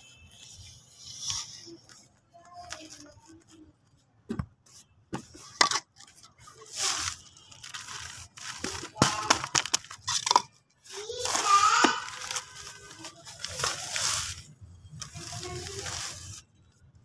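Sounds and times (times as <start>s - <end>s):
plastic crinkling and rustling: 0.0s - 17.0s.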